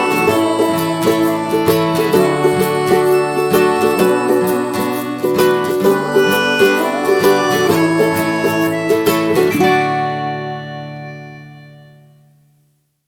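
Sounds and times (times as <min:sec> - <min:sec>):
plucked string instrumental music: 0:00.0 - 0:12.8.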